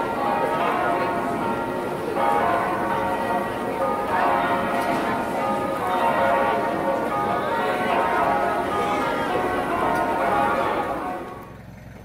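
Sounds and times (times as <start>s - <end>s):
church bells ringing: 0.0s - 11.6s.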